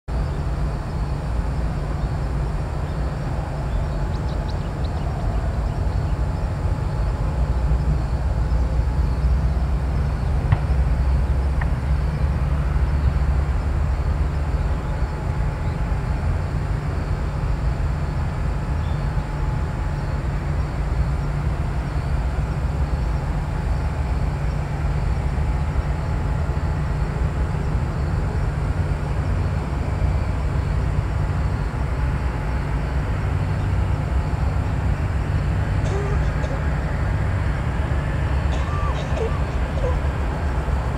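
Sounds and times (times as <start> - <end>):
distant jet engines rumbling: 0.1 - 40.9.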